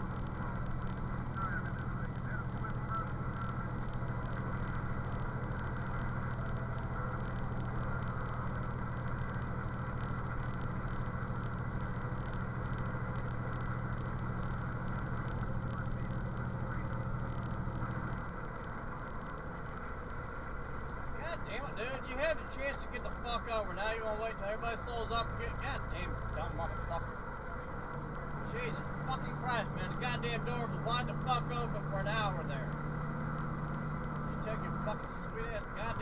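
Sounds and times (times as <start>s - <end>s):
road noise: 0.0s - 36.0s
truck engine droning: 0.0s - 36.0s.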